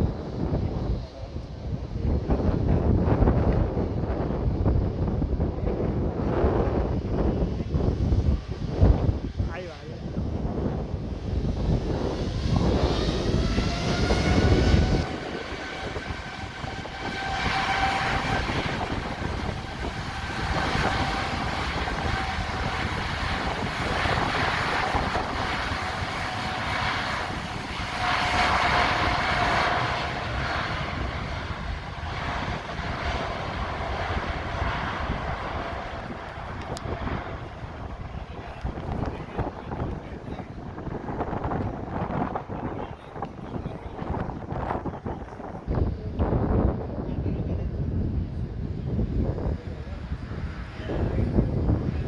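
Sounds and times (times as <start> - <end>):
heavy low rumble: 0.0 - 52.0
jet engines whining: 6.0 - 46.3, 48.3 - 52.0.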